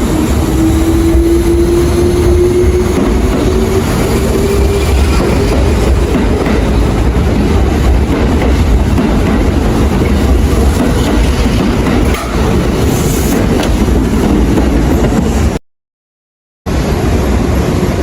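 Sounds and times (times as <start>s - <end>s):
electric train rumbling: 0.0s - 15.6s, 16.7s - 18.0s.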